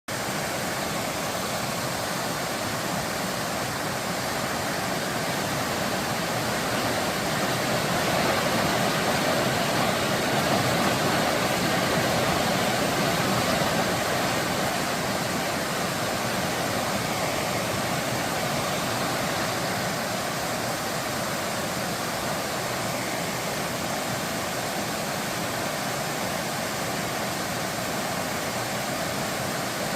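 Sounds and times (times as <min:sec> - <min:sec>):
stream water rushing over rocks: 0:00.1 - 0:29.9.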